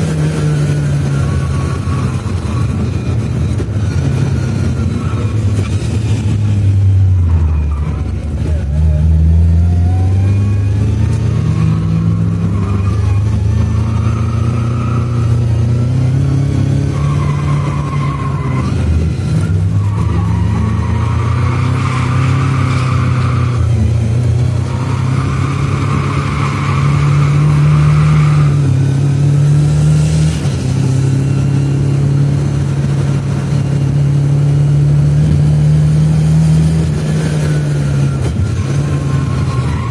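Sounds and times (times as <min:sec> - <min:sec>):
car engine accelerating and shifting: 0:00.0 - 0:39.9.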